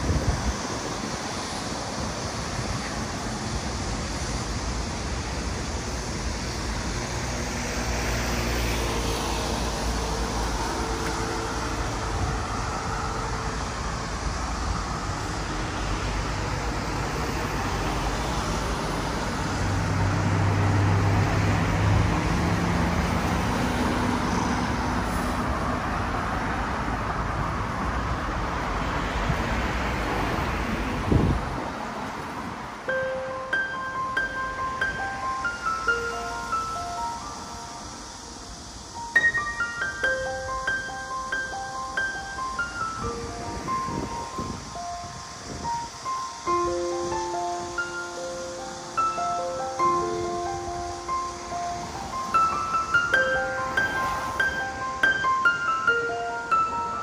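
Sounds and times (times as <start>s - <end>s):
passing vehicles humming: 0.0s - 57.0s
tyres on wet asphalt: 0.0s - 57.0s.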